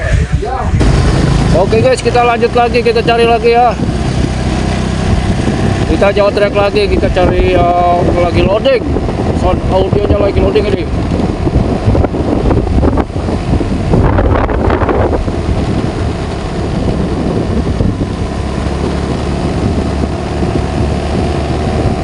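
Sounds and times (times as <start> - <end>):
vehicle engine running: 0.0 - 22.0
wind buffeting microphone: 0.0 - 22.0.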